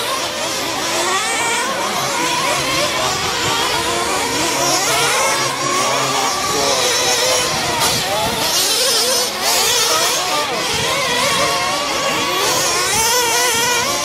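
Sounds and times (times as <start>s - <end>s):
toy truck motors whining: 0.0s - 14.0s.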